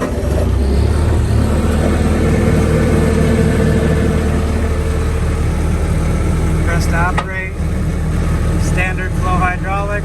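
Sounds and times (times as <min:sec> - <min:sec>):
diesel engine running: 0:00.0 - 0:10.0
higher engine tone: 0:00.0 - 0:10.0.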